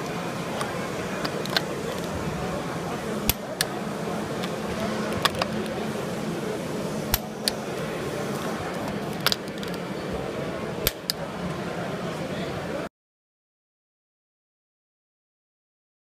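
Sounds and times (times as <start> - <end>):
hubbub of voices in a hall: 0.0 - 12.9.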